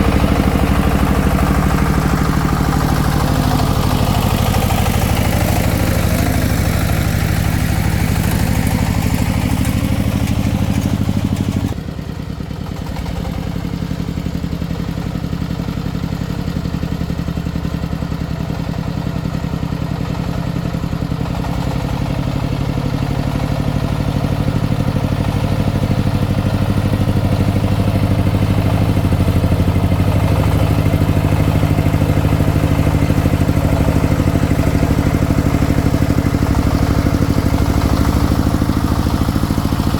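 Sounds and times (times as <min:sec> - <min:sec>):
farm vehicle engine running: 0:00.0 - 0:39.9.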